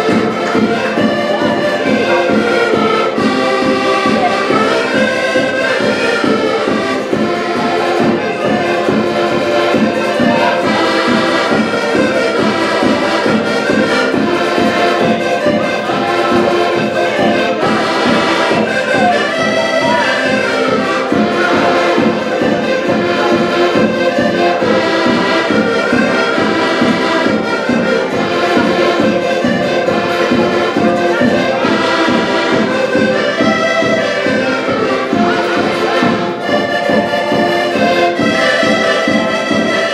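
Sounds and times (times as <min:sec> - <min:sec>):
button accordions playing dance tune: 0:00.0 - 0:39.9.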